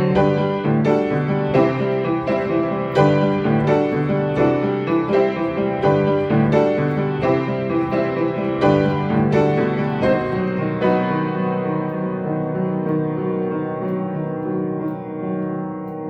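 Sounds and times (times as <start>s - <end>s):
out of tune upright piano: 0.0s - 16.0s.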